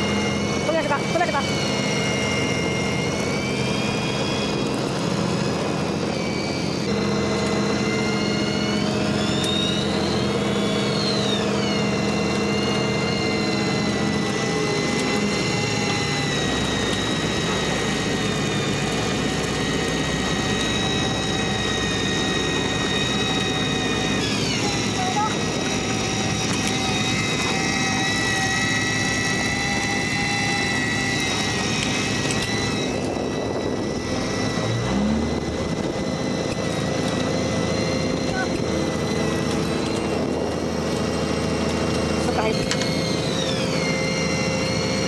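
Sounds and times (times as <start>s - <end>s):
boat engine drone: 0.0s - 45.0s
fishing reel motor whining: 0.0s - 45.0s.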